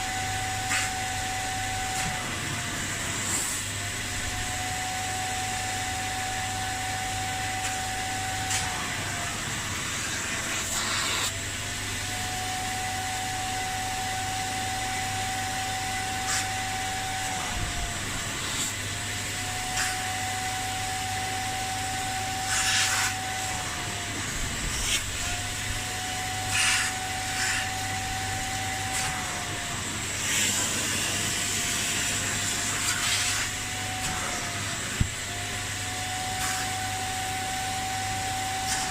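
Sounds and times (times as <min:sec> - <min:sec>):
suction motor whine: 0:00.0 - 0:38.9.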